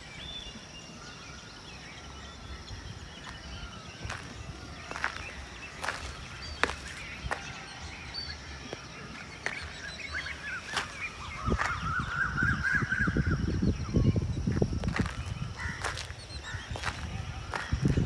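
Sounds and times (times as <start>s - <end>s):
birds chirping and chattering: 0.0s - 18.0s.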